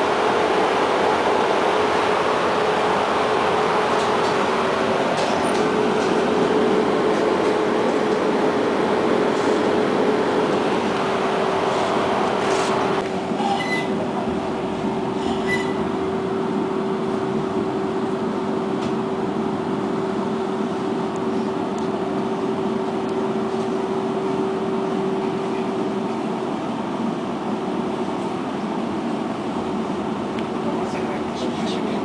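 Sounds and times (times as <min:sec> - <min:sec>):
steady hum: 0:00.0 - 0:32.0
tram interior rumble: 0:00.0 - 0:32.0.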